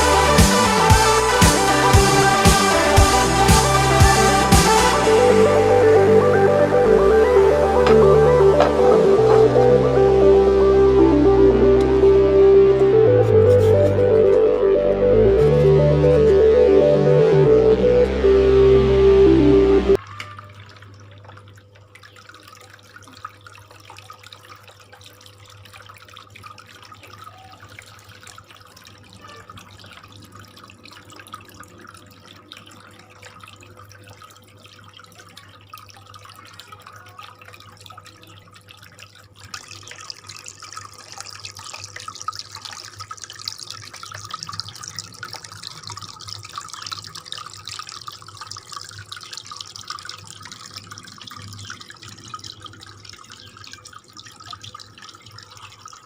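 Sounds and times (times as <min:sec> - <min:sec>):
fountain water trickling and splashing: 0:00.0 - 0:56.0
low steady pump hum: 0:00.0 - 0:56.0.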